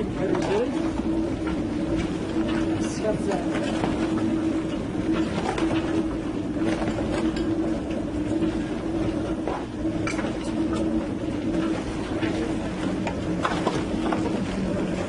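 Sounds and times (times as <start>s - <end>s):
machinery humming with pulses: 0.0s - 15.0s.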